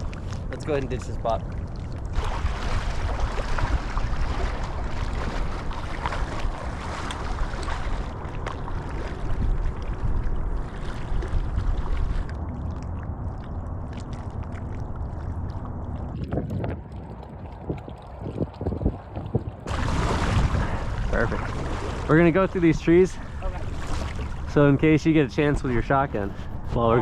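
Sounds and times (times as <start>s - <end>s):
water sloshing and splashing: 0.0s - 27.0s
wind buffeting microphone: 0.0s - 27.0s.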